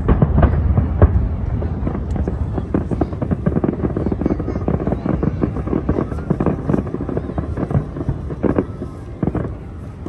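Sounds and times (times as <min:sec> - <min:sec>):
fireworks booming and crackling: 0:00.0 - 0:10.0.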